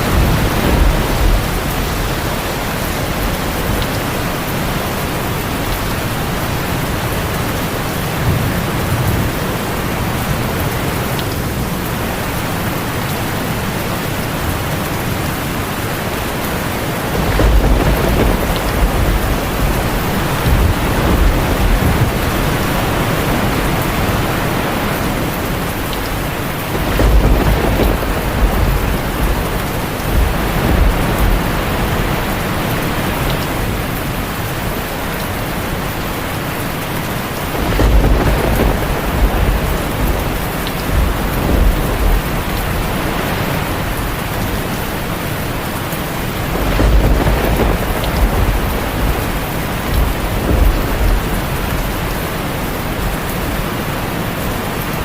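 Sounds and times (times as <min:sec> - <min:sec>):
rolling thunder: 0:00.0 - 0:11.1, 0:14.6 - 0:34.4, 0:37.4 - 0:53.3
heavy rain on a tin roof: 0:00.0 - 0:55.0.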